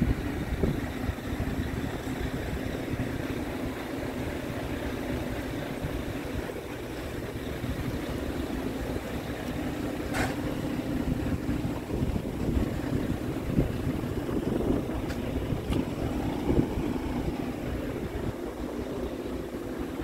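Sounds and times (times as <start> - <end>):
truck diesel engine idling: 0.0 - 20.0
wind buffeting microphone: 0.0 - 20.0.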